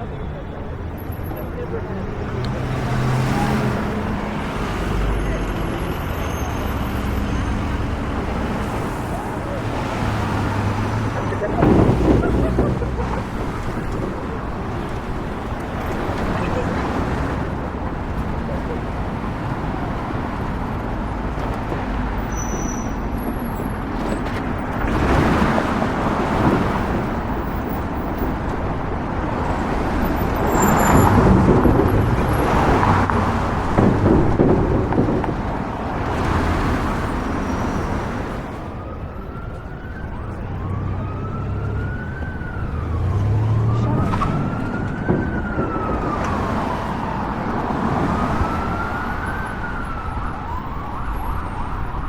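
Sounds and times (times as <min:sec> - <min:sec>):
emergency vehicle siren wailing: 0:00.0 - 0:52.0
street traffic rushing: 0:00.0 - 0:52.0.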